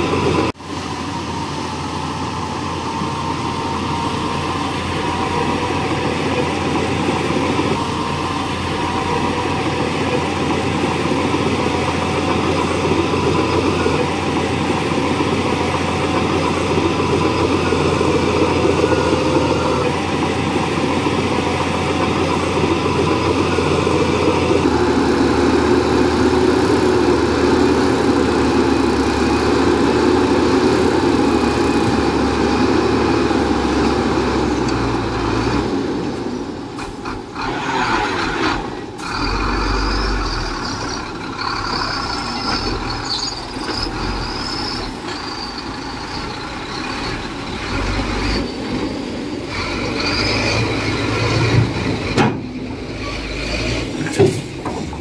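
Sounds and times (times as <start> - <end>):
heavy machine diesel engine running: 0.0 - 55.0.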